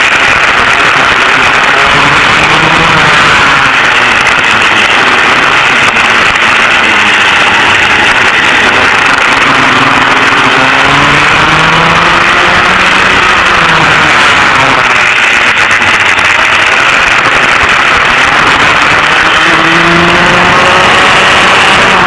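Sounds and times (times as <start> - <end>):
kart engines buzzing: 0.0 - 22.0.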